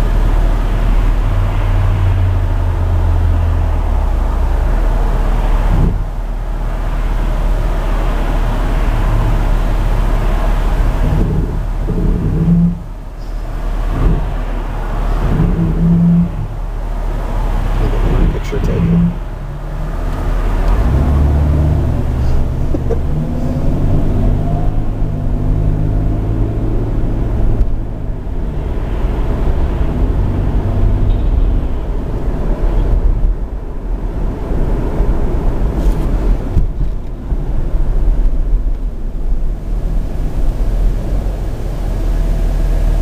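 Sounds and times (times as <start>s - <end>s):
car engine from inside cabin: 0.0s - 43.0s
road and tyre noise: 0.0s - 43.0s.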